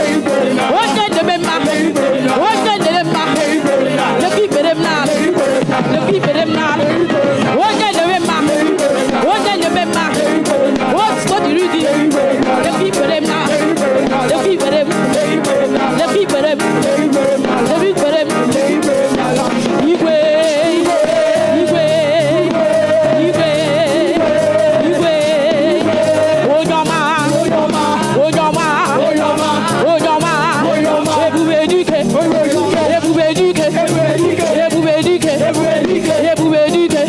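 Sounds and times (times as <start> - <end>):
drumming: 0.0 - 37.0
gospel band playing: 0.0 - 37.0
person singing: 0.0 - 37.0.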